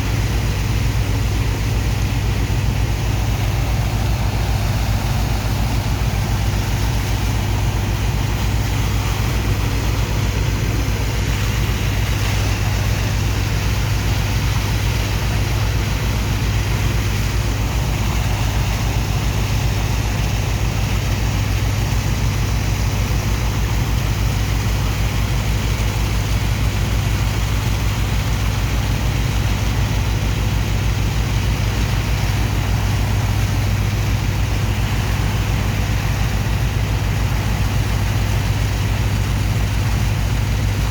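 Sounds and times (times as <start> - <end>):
pump engine humming: 0.0 - 40.9
rush of pumped water and sand: 0.0 - 40.9.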